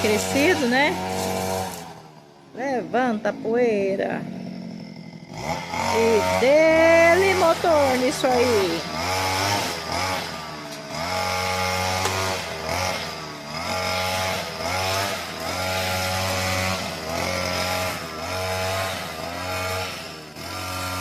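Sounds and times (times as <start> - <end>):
brush cutter engine revving: 0.0 - 21.0.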